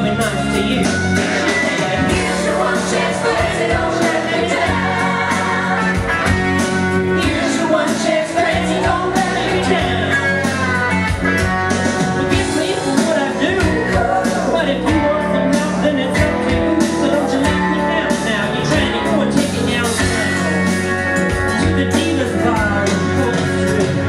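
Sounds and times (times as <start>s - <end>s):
person singing into microphone: 0.0s - 10.9s, 11.8s - 20.7s, 21.5s - 24.0s
country-rock band playing: 0.0s - 24.0s.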